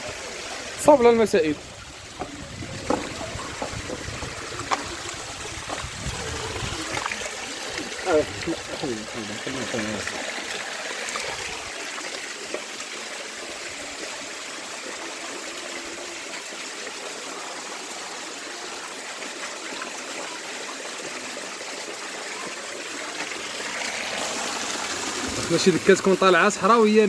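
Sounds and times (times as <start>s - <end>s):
running water from waterfall: 0.0s - 27.0s.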